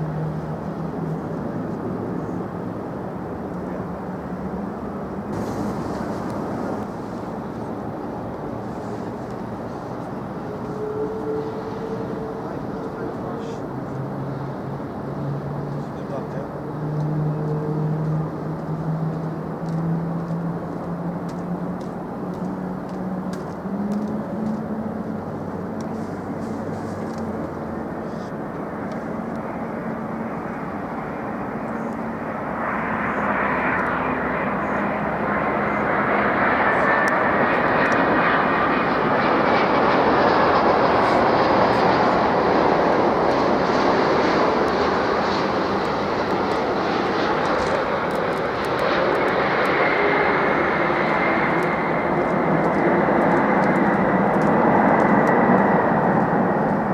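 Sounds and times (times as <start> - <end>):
jet airliner engine rush: 0.0 - 56.9.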